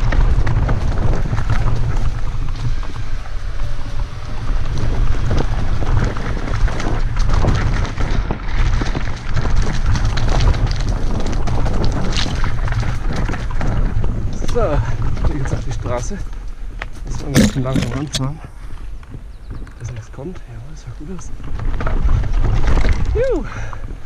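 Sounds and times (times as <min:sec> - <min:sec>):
bike knocks and rattles: 0:00.0 - 0:18.4, 0:21.4 - 0:24.0
tyres rumbling on trail: 0:00.0 - 0:24.0
wind buffeting microphone: 0:00.0 - 0:24.0.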